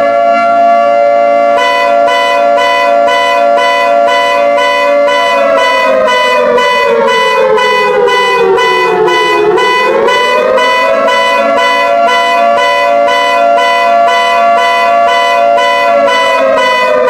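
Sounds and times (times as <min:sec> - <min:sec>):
pulsing electronic alarm tones: 0:00.0 - 0:17.0
siren-like sliding tone: 0:00.0 - 0:17.0.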